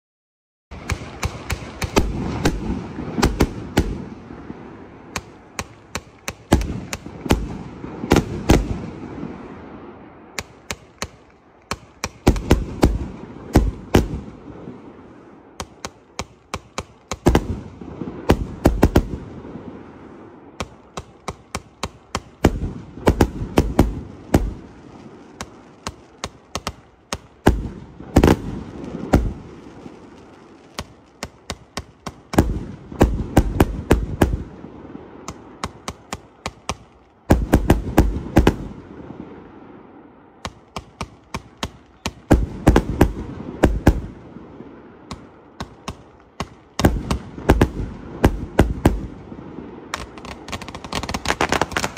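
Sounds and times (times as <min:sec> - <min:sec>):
fireworks launching and bursting: 0:00.7 - 0:51.9.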